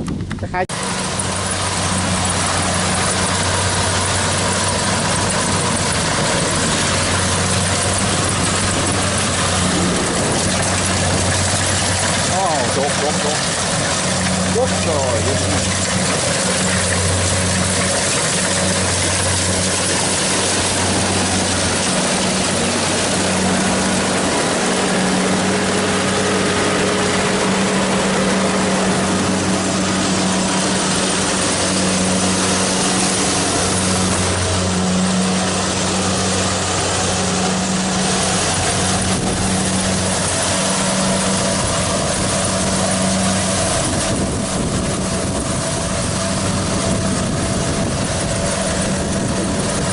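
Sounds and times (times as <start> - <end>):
combine harvester engine drone: 0.0 - 49.9
low hum: 0.0 - 49.9.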